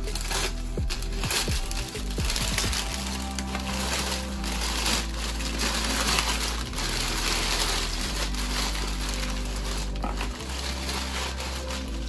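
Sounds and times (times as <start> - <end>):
cellophane crinkling and rustling: 0.0 - 12.0
low bass background music: 0.0 - 12.0.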